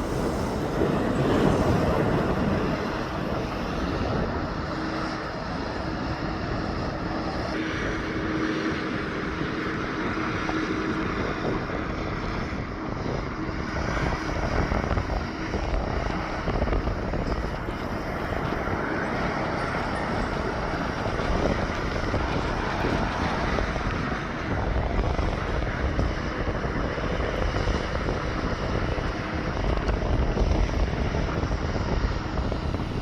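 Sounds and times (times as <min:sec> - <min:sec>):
steady hum: 0:00.0 - 0:33.0
trucks rumbling on road: 0:00.0 - 0:33.0.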